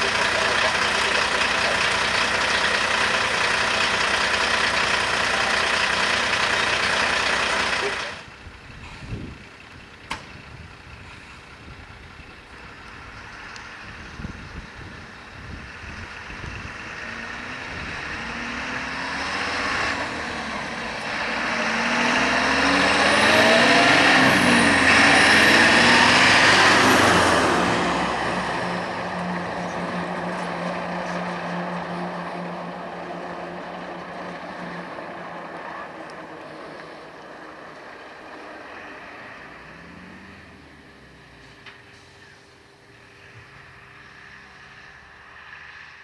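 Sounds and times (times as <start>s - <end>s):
heavy truck driving past: 0.0s - 46.0s
low engine hum: 0.0s - 46.0s.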